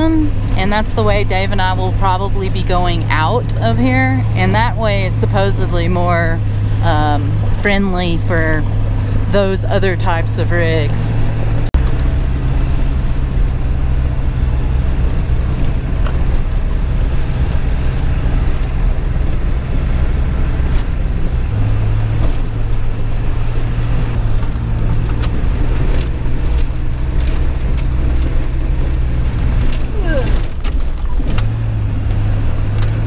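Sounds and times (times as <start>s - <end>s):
road noise: 0.0s - 33.0s
truck engine under load: 0.0s - 33.0s.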